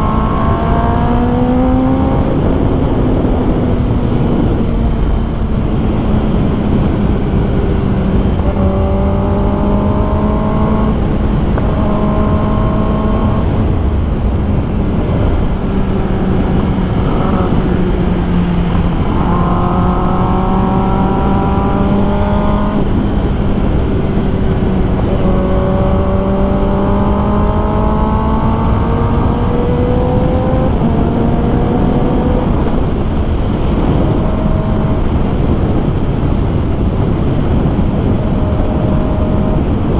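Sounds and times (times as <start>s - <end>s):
motorcycle engine revving and shifting: 0.0s - 39.9s
wind rush: 0.0s - 39.9s.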